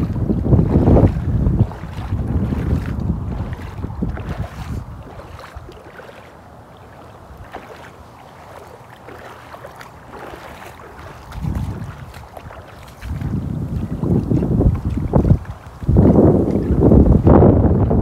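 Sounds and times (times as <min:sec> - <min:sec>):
wind buffeting microphone: 0:00.0 - 0:06.3, 0:07.1 - 0:18.0
feet wading through water: 0:00.0 - 0:18.0.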